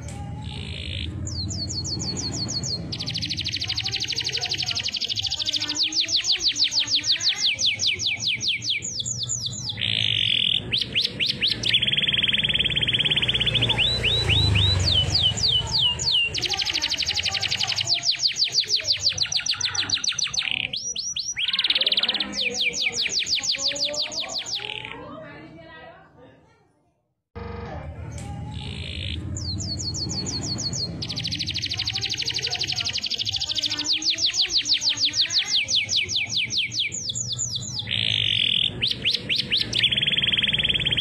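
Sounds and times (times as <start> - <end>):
canary singing trills: 0.0 - 25.2, 28.1 - 41.0.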